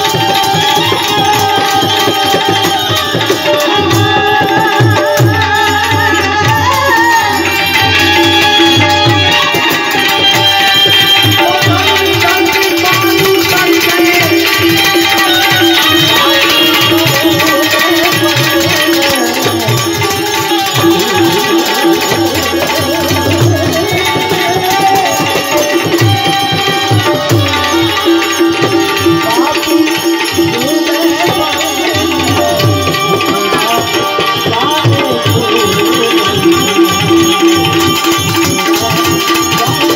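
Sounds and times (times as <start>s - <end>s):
stringed instrument melody: 0.0s - 39.9s.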